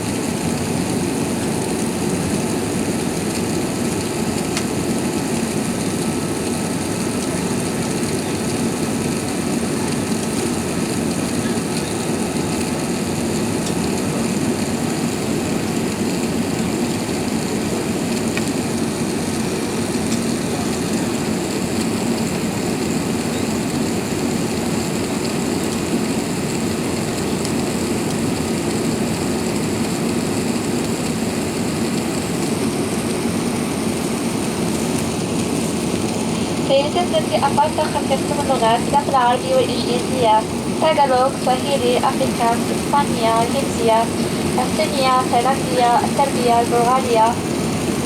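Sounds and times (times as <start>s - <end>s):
airliner cabin roar: 0.0s - 48.0s.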